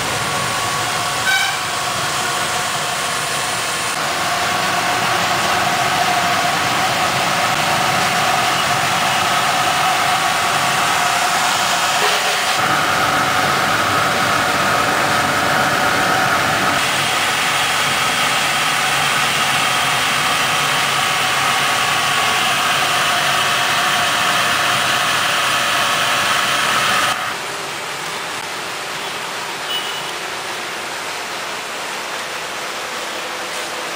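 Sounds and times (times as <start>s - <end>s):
burner and blower rushing: 0.0s - 27.4s.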